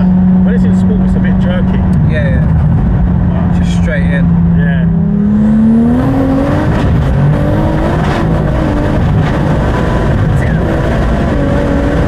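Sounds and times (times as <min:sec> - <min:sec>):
car engine running hard: 0:00.0 - 0:12.0
road noise: 0:00.0 - 0:12.0.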